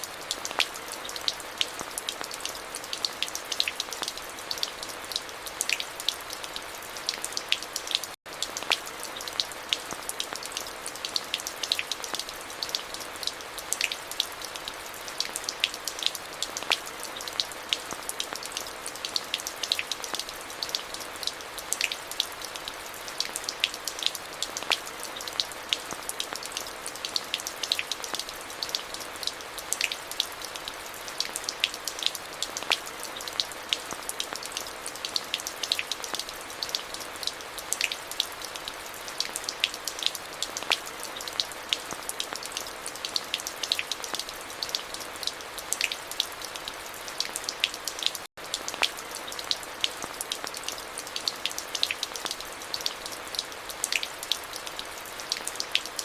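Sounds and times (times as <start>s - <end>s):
rain drops on hard surface: 0.0s - 56.0s.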